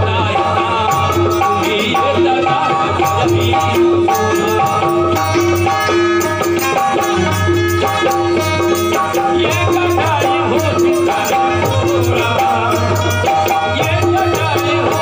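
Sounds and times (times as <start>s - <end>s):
harmonium held tones: 0.0s - 15.0s
person singing: 0.0s - 15.0s
hand percussion rattling: 0.5s - 15.0s.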